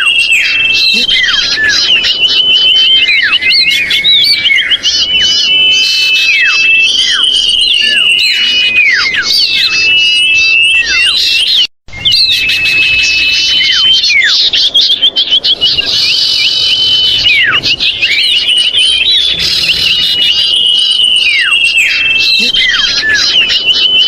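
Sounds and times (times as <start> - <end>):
bird whistling call: 0.0 - 24.0.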